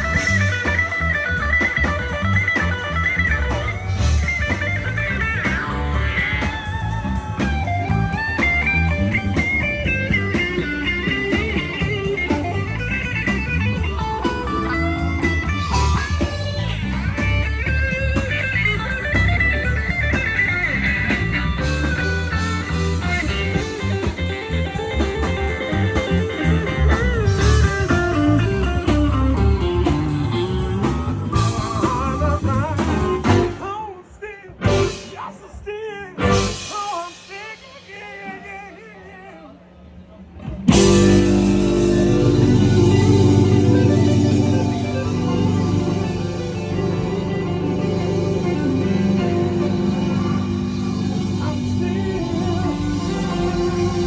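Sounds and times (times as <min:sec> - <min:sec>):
electric guitar lead lines: 0:00.0 - 0:33.8, 0:34.5 - 0:37.9, 0:40.4 - 0:54.0
electric blues band playing: 0:00.0 - 0:38.7, 0:40.4 - 0:54.0.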